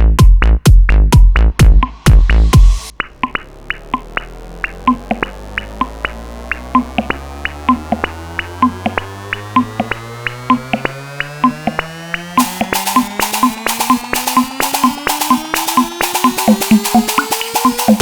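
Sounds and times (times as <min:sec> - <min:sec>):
electronic dance music: 0:00.0 - 0:18.0.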